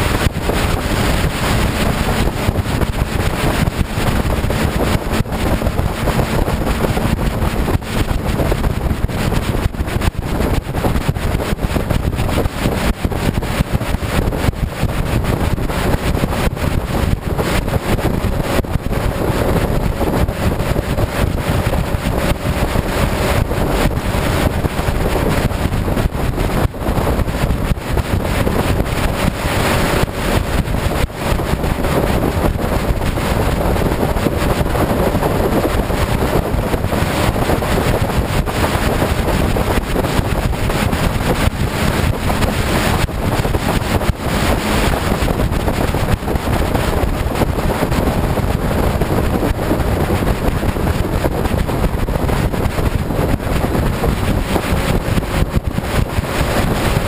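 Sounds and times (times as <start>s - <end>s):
motorcycle engine and tyre hum: 0.0s - 57.0s
wind buffeting microphone: 0.0s - 57.0s.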